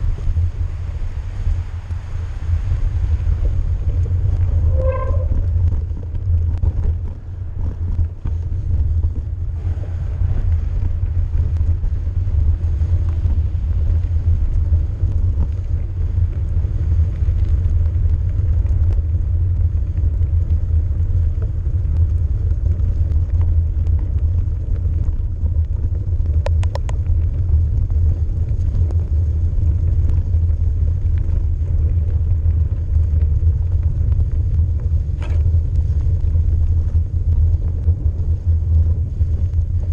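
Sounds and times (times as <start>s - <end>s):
mountain bike rolling on snow: 0.0s - 39.9s.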